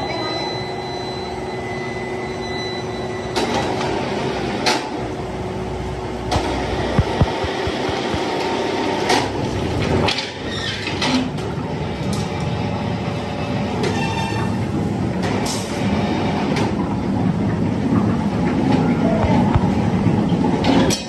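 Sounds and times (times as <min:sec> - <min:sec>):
factory machinery running: 0:00.0 - 0:21.0.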